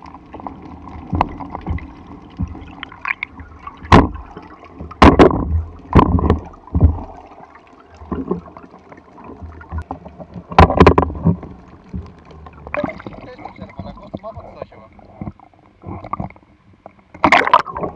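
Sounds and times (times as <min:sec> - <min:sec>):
underwater sloshing and bubbling: 0:00.0 - 0:17.9.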